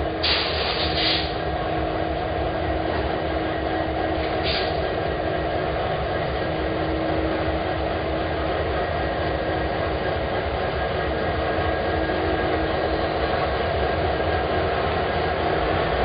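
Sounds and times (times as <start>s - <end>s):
freight train rumble: 0.0s - 16.0s
locomotive hum: 0.0s - 16.0s.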